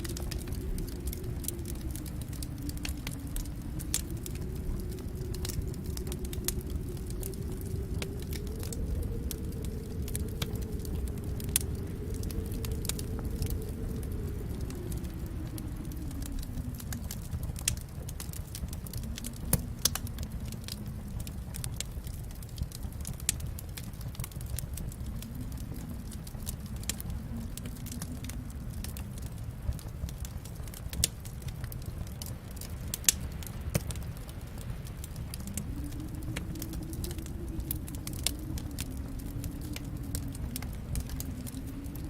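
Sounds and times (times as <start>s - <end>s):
fire burning and crackling: 0.0s - 42.0s.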